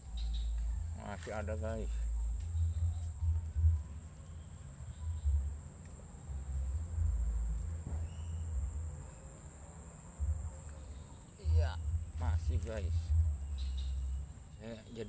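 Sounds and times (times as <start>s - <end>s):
low rumble: 0.0s - 9.2s, 10.2s - 14.6s
insects chirring: 0.0s - 15.0s.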